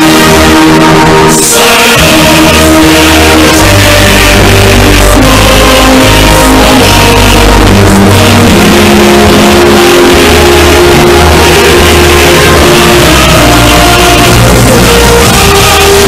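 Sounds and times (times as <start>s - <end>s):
loud music with bass line: 0.0s - 16.0s.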